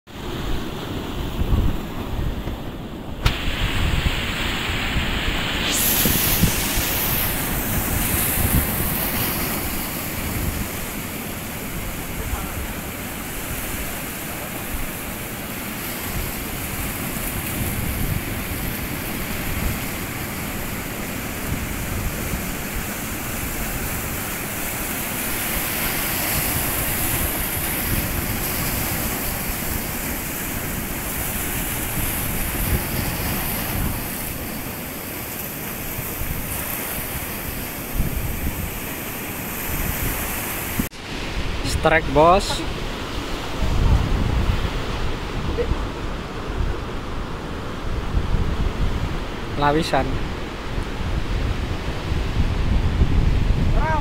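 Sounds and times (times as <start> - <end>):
wind buffeting microphone: 0.2 - 54.0
surf breaking over boulders: 0.3 - 54.0.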